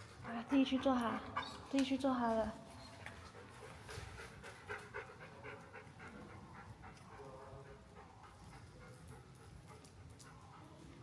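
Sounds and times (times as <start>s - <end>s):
dog panting: 0.0s - 2.0s, 2.8s - 11.0s.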